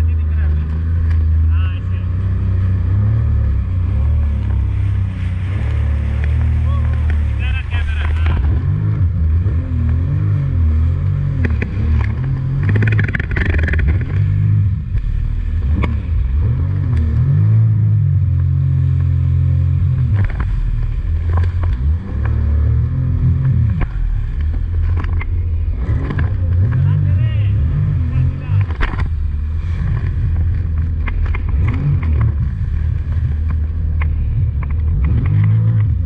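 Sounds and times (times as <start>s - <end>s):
jet ski engine running: 0.0s - 36.0s.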